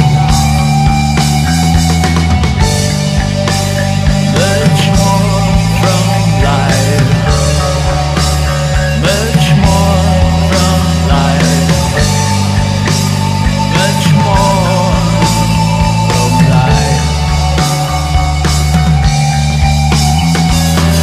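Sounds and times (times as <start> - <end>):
drums keeping steady beat: 0.0 - 21.0
rock band playing: 0.0 - 21.0.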